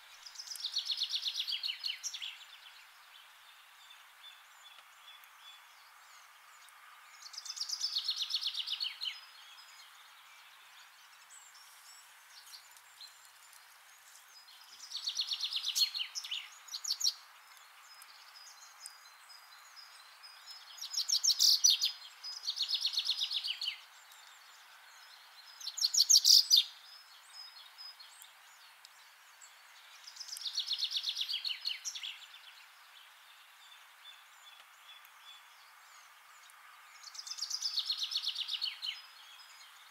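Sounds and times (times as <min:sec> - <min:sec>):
faint outdoor hiss: 0:00.0 - 0:39.9
songbird singing: 0:00.0 - 0:39.9.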